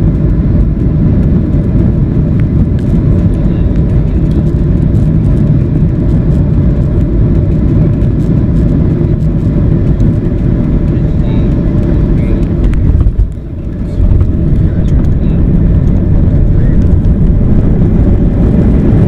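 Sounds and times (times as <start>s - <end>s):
jet engine rumble in airplane cabin: 0.0s - 19.0s.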